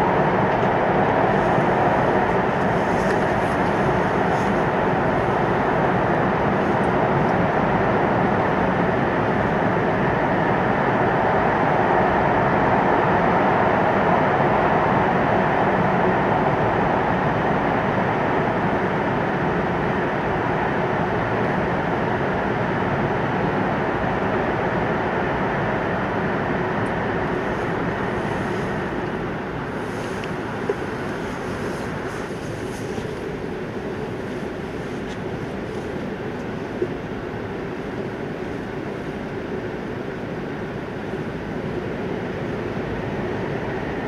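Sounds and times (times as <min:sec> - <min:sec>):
train rushing rumble inside car: 0:00.0 - 0:44.0.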